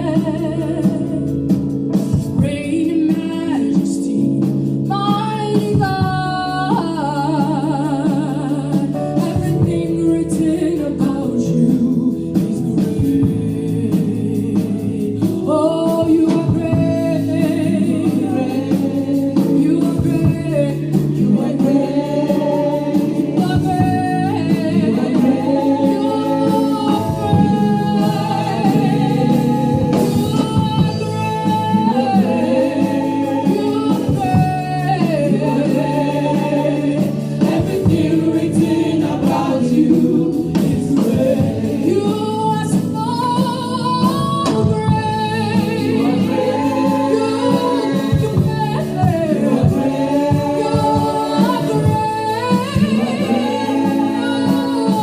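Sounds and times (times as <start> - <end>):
instrumental accompaniment: 0.0 - 55.0
group of voices singing: 2.0 - 55.0.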